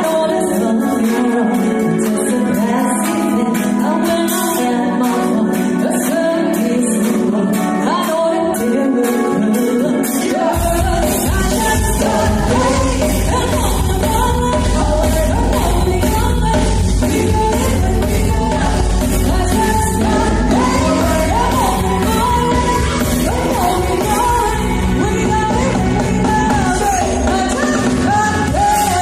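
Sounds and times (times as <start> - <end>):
pop song with singing: 0.0 - 29.0.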